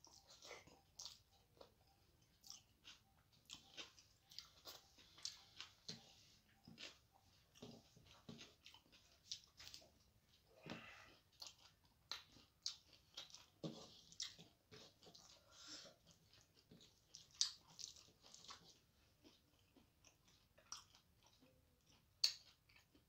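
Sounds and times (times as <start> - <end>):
person chewing with mouth open: 0.0 - 23.0.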